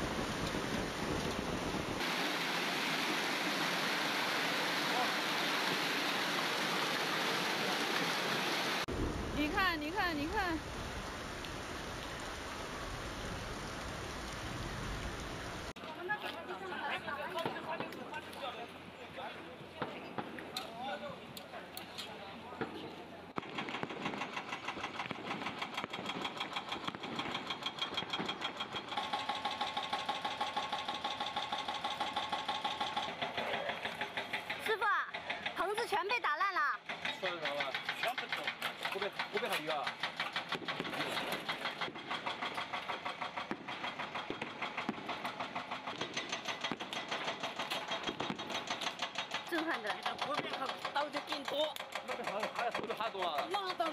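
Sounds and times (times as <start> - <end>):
hailstones hitting ground: 0.0 - 2.5, 4.2 - 15.7, 23.4 - 53.9.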